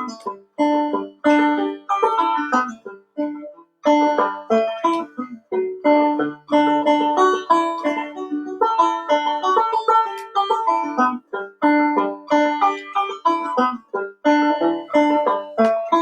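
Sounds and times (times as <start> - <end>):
banjo playing: 0.0 - 16.0.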